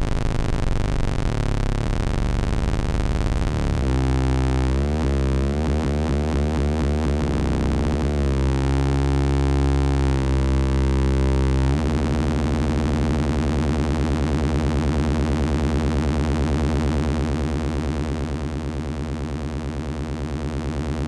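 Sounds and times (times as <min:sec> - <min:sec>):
analog synthesizer drone: 0:00.0 - 0:21.0.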